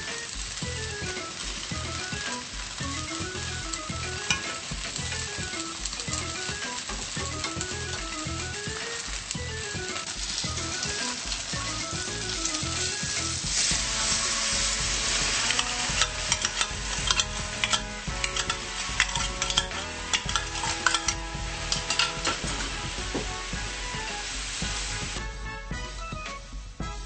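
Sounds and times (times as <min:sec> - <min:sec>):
sauce crackling and popping: 0:00.0 - 0:25.9
background music: 0:00.0 - 0:27.0
tofu sizzling in a pan: 0:00.0 - 0:27.0.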